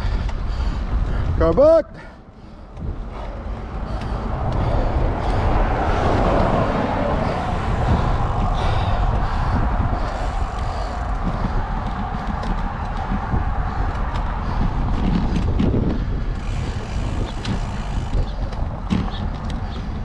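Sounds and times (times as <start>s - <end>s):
bike clicks and rattles: 0.0s - 1.8s, 2.4s - 20.0s
tyres on pavement: 0.0s - 20.0s
wind rumbling on microphone: 0.0s - 20.0s.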